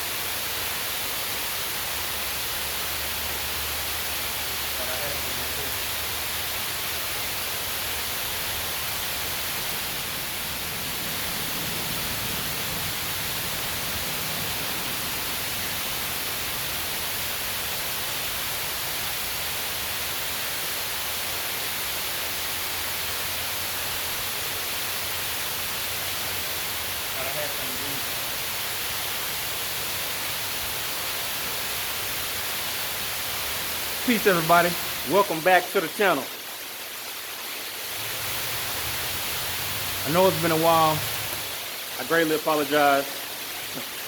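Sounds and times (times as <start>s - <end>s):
rain falling on water: 0.0s - 44.0s.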